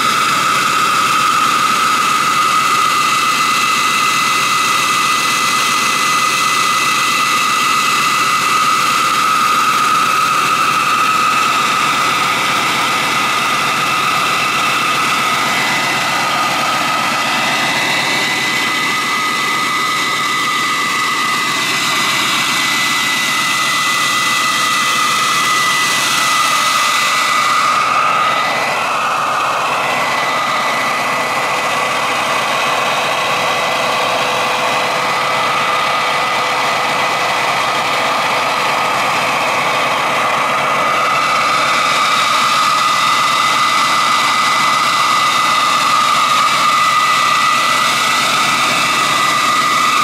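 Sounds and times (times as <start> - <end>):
air turbine high whine: 0.0 - 50.0.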